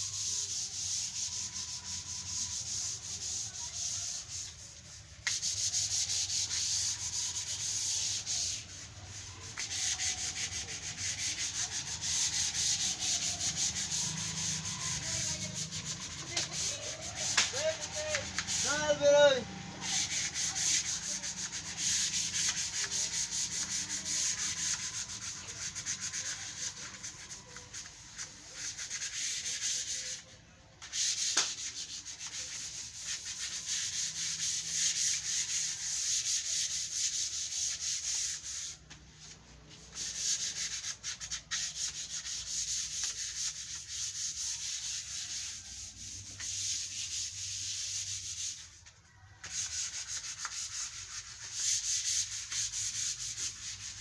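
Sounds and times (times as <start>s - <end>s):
sandpaper rubbing on wood: 0.0s - 54.0s.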